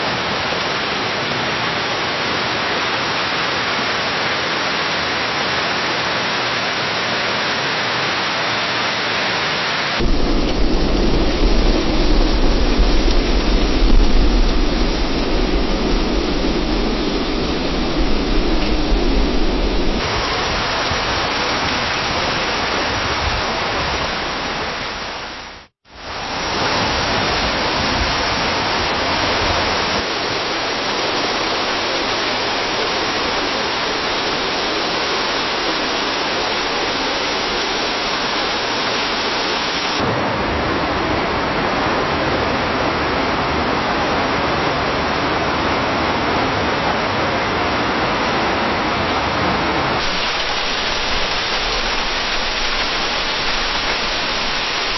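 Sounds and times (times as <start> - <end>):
rain falling in a forest: 0.0 - 54.9.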